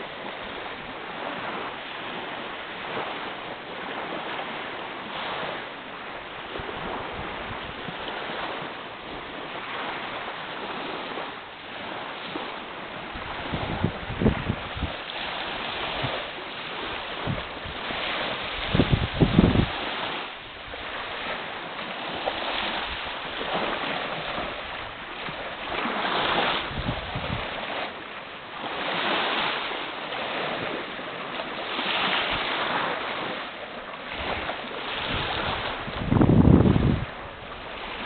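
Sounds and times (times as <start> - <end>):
small waves lapping at shore: 0.0 - 38.0
wind rumbling on microphone: 0.0 - 38.0.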